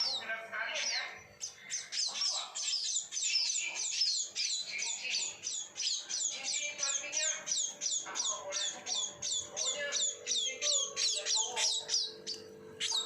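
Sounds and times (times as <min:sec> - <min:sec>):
baby birds begging chirps: 0:00.0 - 0:13.0.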